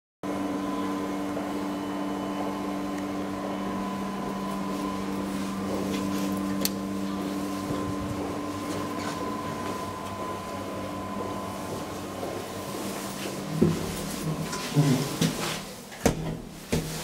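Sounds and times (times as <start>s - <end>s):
machinery hum: 0.2s - 17.0s.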